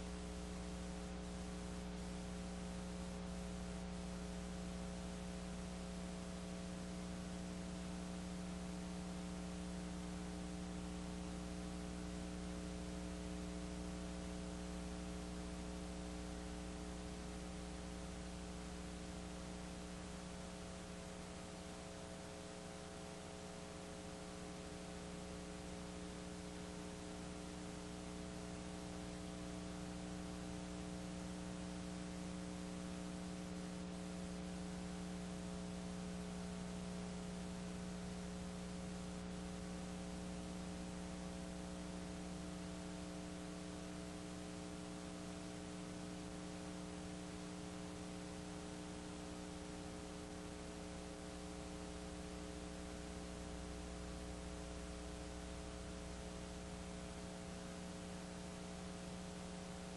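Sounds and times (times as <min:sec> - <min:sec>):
constant hiss: 0:00.0 - 0:59.9
electrical mains hum: 0:00.0 - 0:59.9.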